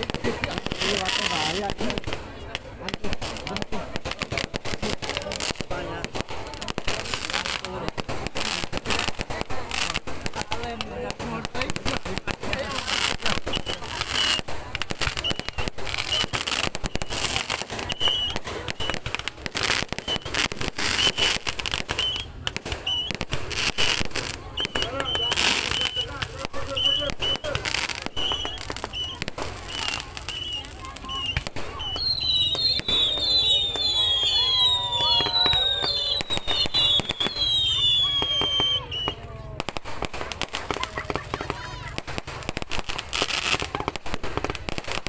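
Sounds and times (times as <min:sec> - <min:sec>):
firecrackers banging: 0:00.0 - 0:45.0.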